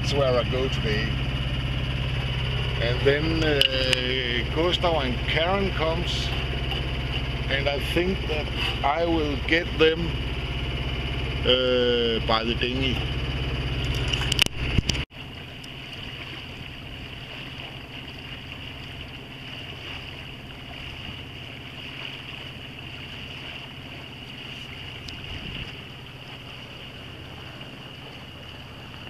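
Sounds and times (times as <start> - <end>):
diesel boat engine humming: 0.0 - 29.0.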